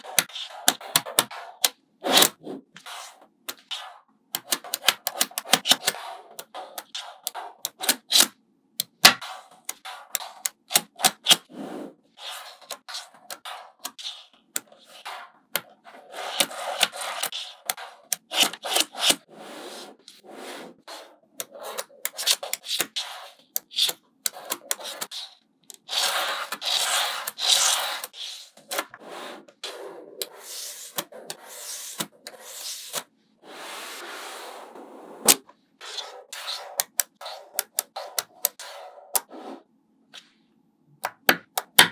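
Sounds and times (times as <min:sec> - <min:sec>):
balls rubbing and scraping: 0:00.0 - 0:08.2, 0:09.2 - 0:40.3.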